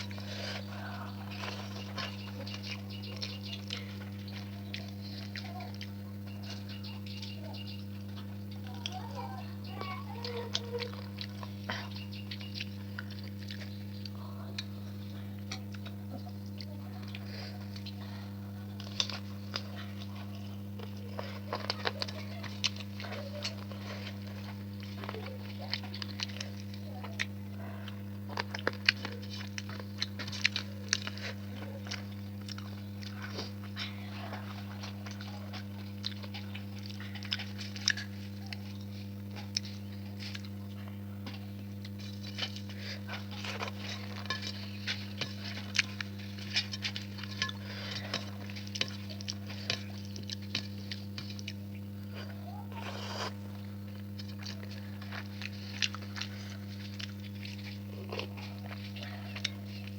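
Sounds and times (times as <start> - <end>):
food crunching: 0.0 - 59.9
person chewing food: 0.0 - 59.9
steady low hum: 0.0 - 59.9.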